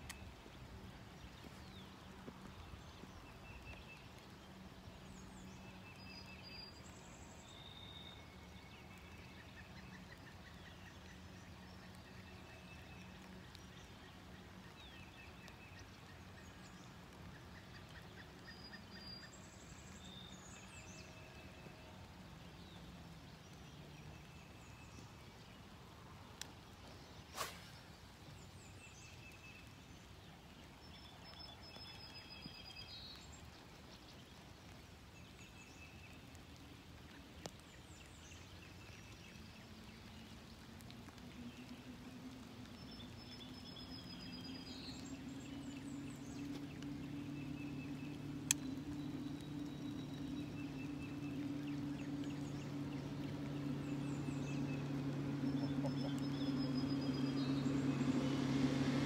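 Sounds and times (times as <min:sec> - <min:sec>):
birds calling and singing: 0:00.0 - 0:59.0
light rain hiss: 0:00.0 - 0:59.0.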